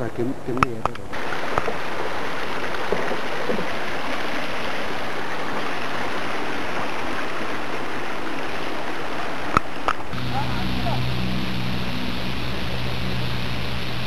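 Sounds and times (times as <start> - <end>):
fast-flowing stream rushing: 1.1 - 14.0.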